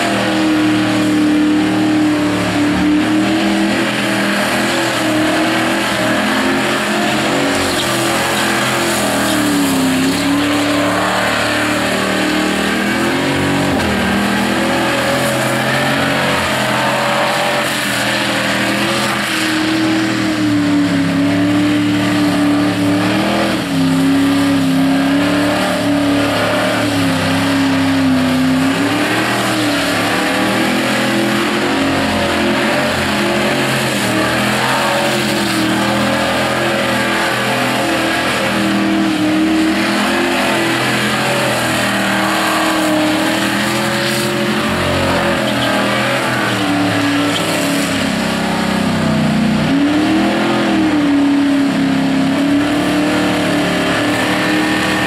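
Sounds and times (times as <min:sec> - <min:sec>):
wheels spinning on asphalt: 0:00.0 - 0:49.0
car engine revving high: 0:00.0 - 0:55.0.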